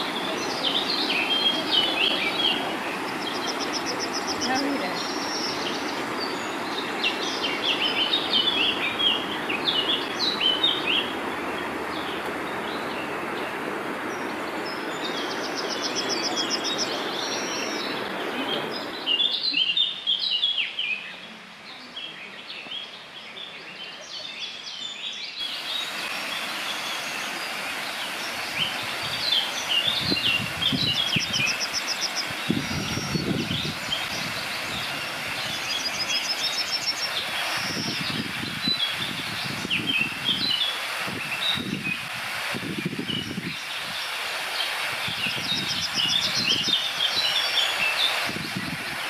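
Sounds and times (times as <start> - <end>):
water rushing over weir: 0.0 - 19.6, 25.4 - 49.0
songbirds chirping: 0.0 - 49.0.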